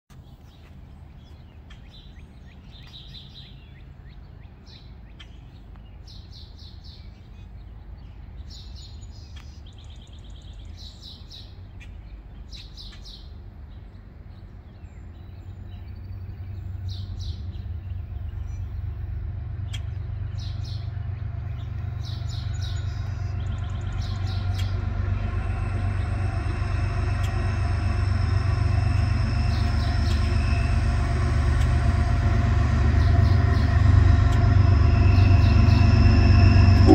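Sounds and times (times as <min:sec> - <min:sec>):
small birds chirping: 0:00.1 - 0:36.9
diesel locomotive rumble: 0:00.4 - 0:36.9.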